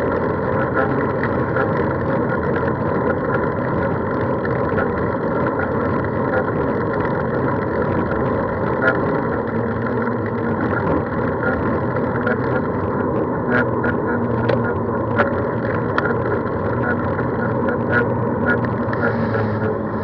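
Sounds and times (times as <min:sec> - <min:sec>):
moving vehicle rumble: 0:00.0 - 0:20.0
sharp clicks and rattles: 0:00.0 - 0:20.0.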